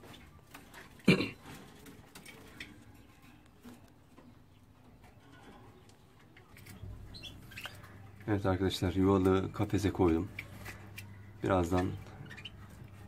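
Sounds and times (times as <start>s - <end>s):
birds fluttering: 0.0s - 13.0s
canaries calling: 0.0s - 13.0s.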